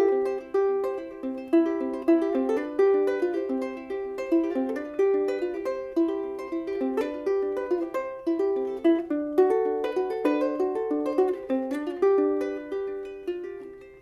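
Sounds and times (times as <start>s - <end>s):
fingerpicked ukulele melody: 0.0s - 14.0s.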